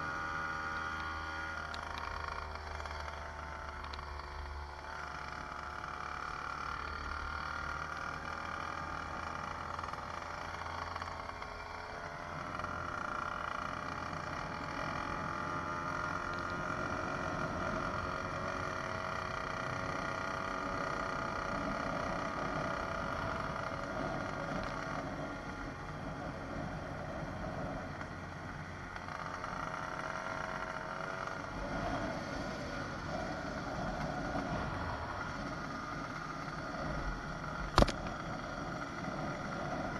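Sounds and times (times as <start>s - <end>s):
two-stroke bicycle engine running: 0.0s - 39.9s.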